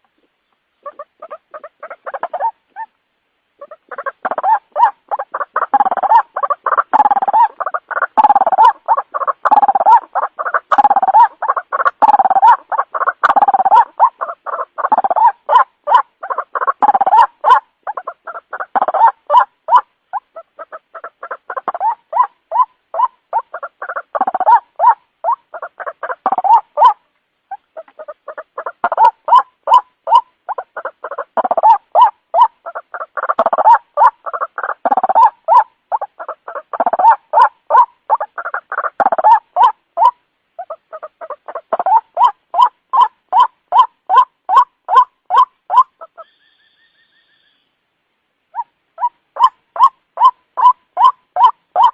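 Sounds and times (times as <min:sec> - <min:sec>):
waterhen calling harsh notes: 0:03.6 - 0:47.8, 0:48.4 - 0:51.9.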